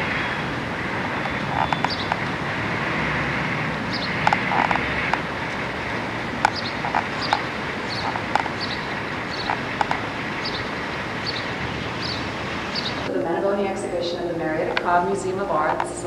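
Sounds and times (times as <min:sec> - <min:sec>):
small birds chirping: 0:00.0 - 0:13.1
street traffic hum: 0:00.0 - 0:16.0.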